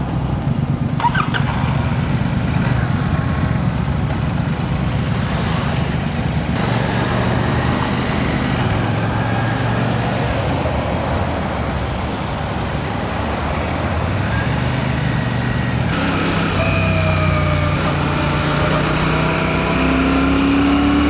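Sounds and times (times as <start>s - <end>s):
motorcycle engine rumble: 0.0s - 21.0s
road and traffic noise: 0.0s - 21.0s.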